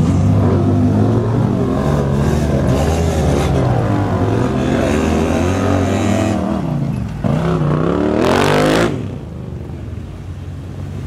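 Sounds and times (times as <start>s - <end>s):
utility vehicle engine revving: 0.0s - 9.2s.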